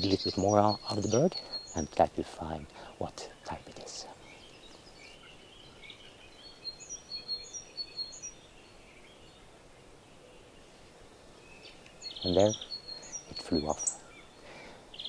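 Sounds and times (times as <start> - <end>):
outdoor background hiss: 0.0 - 15.0
songbirds chirping: 0.0 - 15.0.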